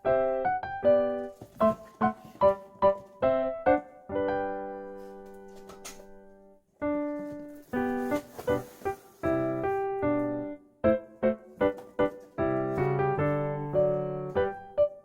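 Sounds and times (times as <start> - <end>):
bouncy keyboard tune: 0.0 - 15.0.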